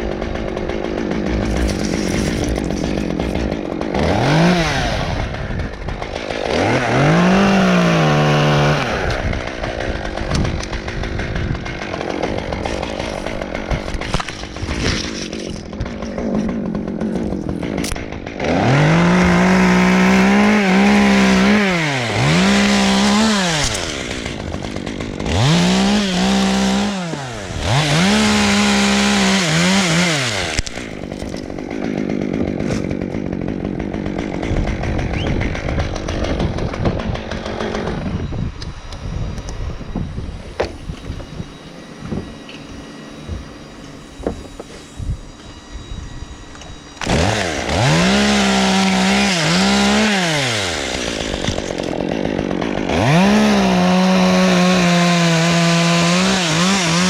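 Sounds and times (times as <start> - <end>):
chainsaw revving: 0.0 - 38.2, 47.0 - 57.0.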